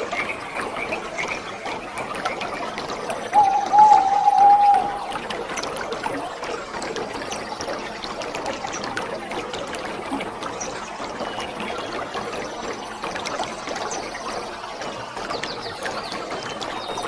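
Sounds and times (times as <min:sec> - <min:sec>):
water splashes and drips: 0:00.0 - 0:17.0.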